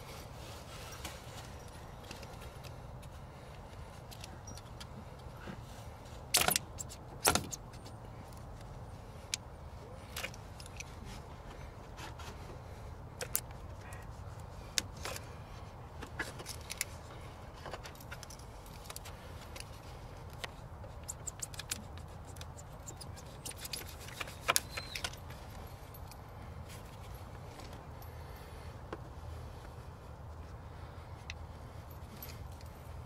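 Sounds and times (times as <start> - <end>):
hands shifting wiring: 0.0 - 33.0.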